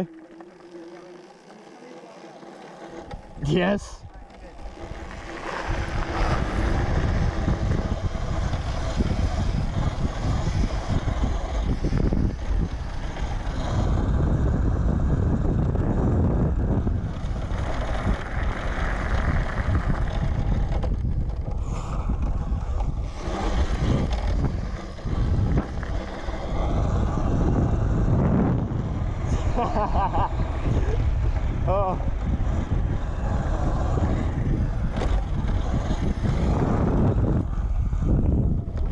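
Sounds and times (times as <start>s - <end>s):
wind buffeting microphone: 3.0s - 38.9s.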